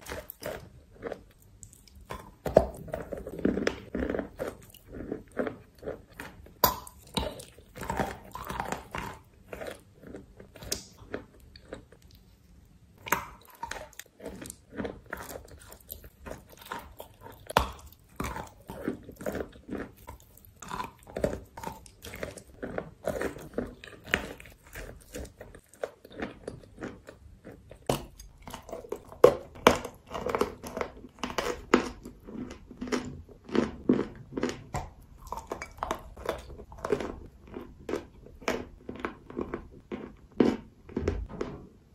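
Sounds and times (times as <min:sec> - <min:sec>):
chalk crunching and chewing: 0:00.0 - 0:41.4.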